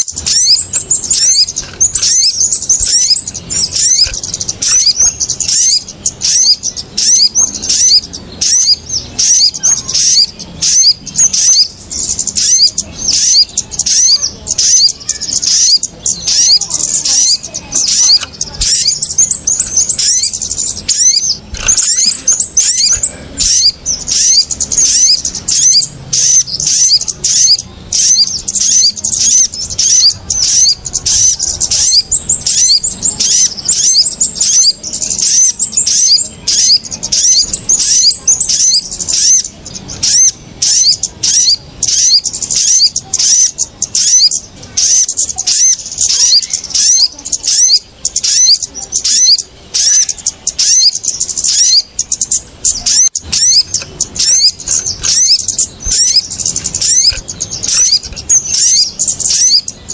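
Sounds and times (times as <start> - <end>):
birds' high sharp alarm chirps: 0.0 - 59.9.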